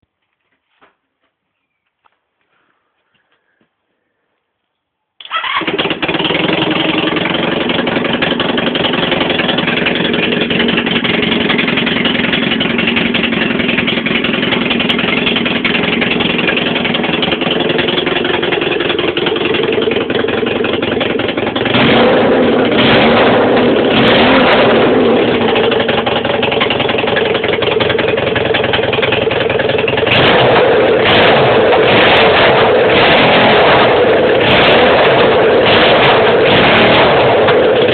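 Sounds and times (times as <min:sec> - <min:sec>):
motorcycle engine starting and revving: 0:05.2 - 0:37.9.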